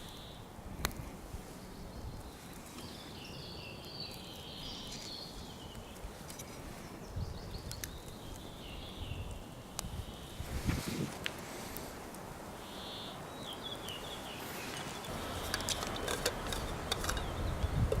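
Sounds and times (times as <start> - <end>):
small songbird singing: 0.0 - 0.4, 1.5 - 10.5, 12.5 - 18.0.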